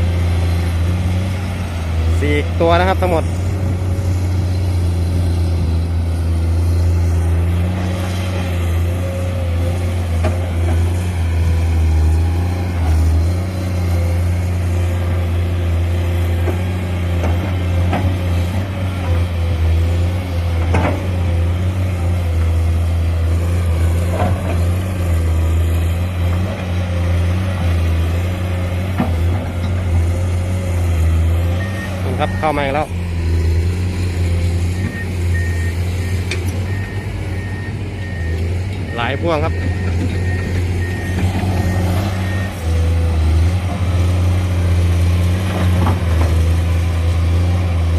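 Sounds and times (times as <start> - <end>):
diesel engine humming: 0.0 - 47.9.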